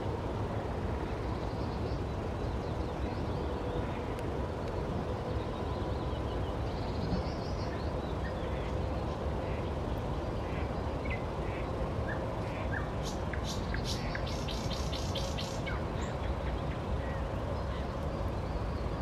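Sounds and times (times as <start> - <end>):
low background rumble: 0.0 - 19.0
songbirds singing: 0.0 - 19.0.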